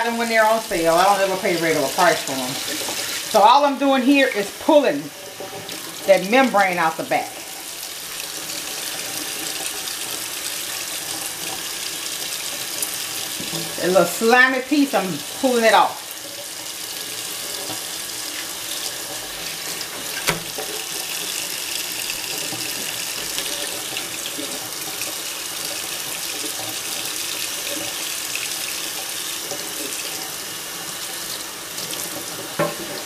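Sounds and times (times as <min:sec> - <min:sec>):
faucet running into a metal sink: 0:00.2 - 0:33.0.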